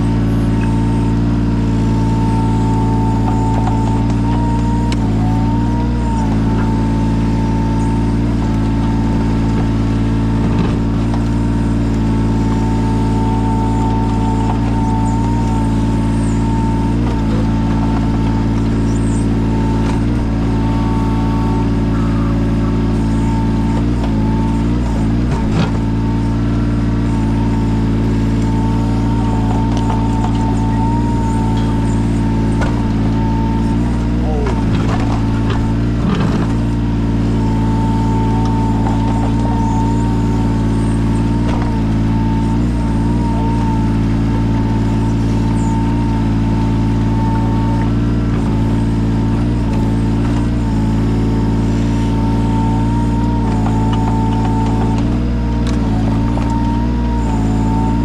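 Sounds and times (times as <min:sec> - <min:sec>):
high whine: 0:00.0 - 0:58.0
mini excavator diesel engine: 0:00.0 - 0:58.0.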